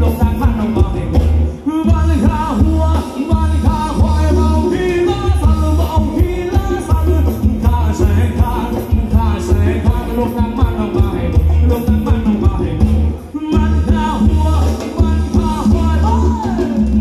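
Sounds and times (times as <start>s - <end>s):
heavy pulsing bass beat: 0.0s - 17.0s
live band playing dance music: 0.0s - 17.0s
person singing: 0.0s - 17.0s.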